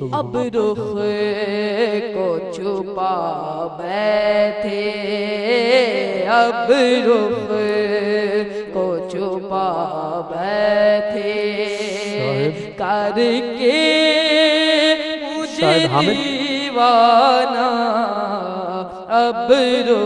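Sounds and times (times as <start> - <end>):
boy singing devotional song: 0.0 - 20.0.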